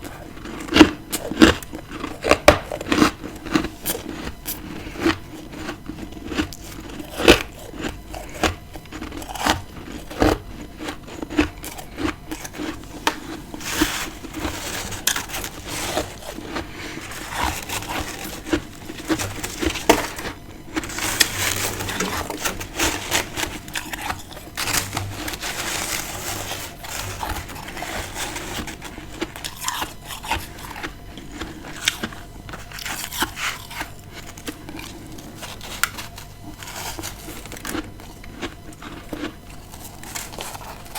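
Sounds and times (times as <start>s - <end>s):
frost being bitten and chewed: 0.0s - 40.9s.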